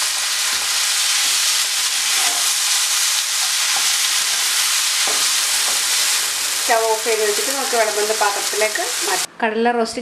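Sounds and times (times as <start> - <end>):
food sizzling in a pan: 0.0 - 9.3.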